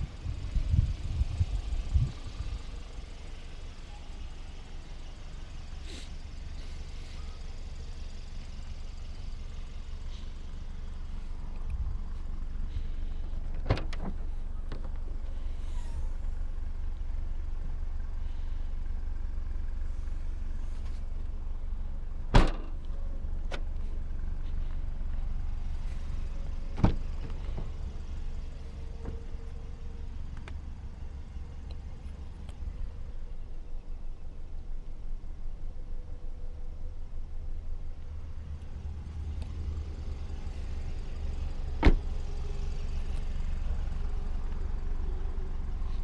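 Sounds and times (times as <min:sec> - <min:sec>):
vehicle low rumble: 0:00.0 - 0:46.0.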